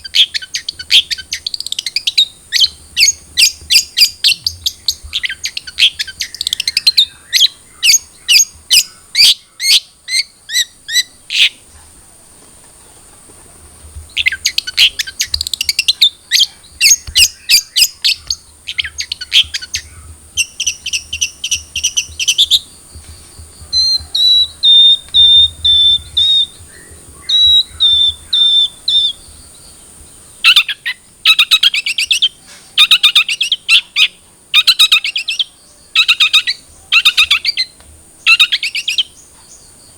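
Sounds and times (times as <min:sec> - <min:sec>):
bird singing varied song: 0:00.0 - 0:12.0, 0:14.0 - 0:39.9.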